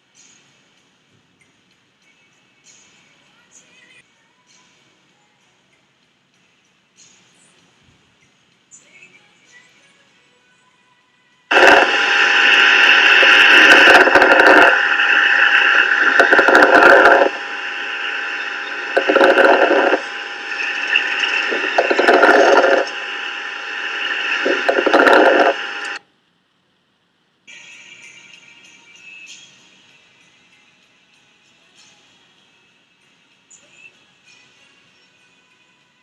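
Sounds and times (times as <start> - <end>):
constant hiss with steady tones: 0.0 - 36.0.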